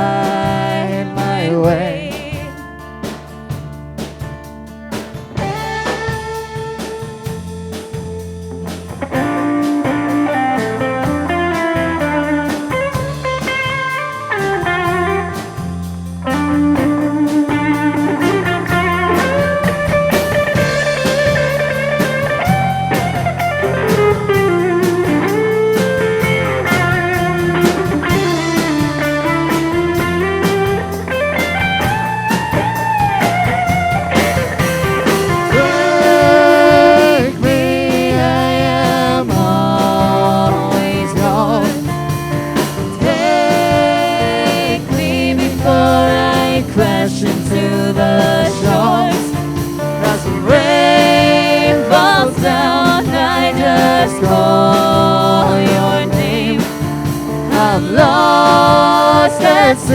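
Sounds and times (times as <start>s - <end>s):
bass: 0.0s - 59.9s
drum kit: 0.0s - 59.9s
lead guitar melody: 0.0s - 59.9s.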